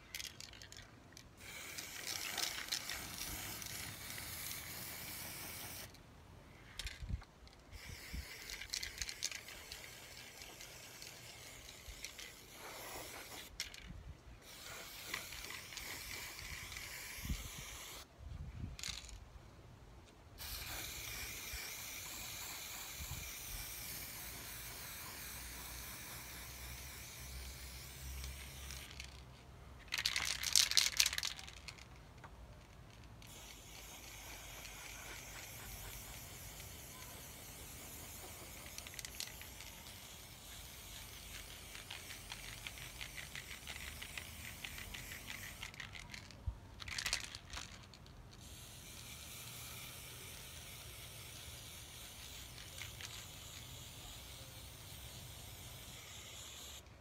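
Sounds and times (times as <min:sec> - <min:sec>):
spray can rattling when shaken: 0:00.0 - 0:18.1, 0:18.8 - 0:19.2, 0:20.4 - 0:56.9
spray paint can hissing: 0:00.0 - 0:18.1, 0:18.8 - 0:19.2, 0:20.4 - 0:32.0, 0:32.6 - 0:56.9.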